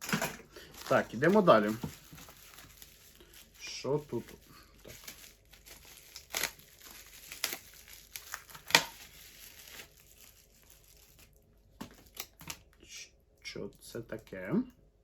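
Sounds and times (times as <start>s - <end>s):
plastic packaging crinkling and tearing: 0.0s - 12.8s.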